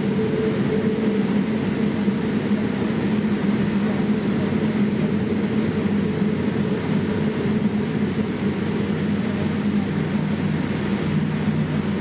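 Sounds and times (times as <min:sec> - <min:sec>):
airliner cabin engine and airflow noise: 0:00.0 - 0:12.0
constant low hum: 0:00.0 - 0:12.0.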